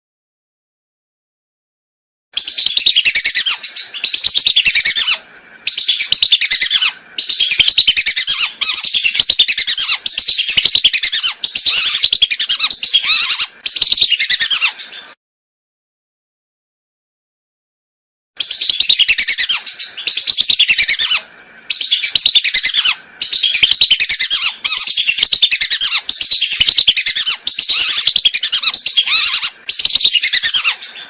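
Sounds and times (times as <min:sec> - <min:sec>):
ducks twittering whistles: 0:02.4 - 0:15.1, 0:18.4 - 0:31.0.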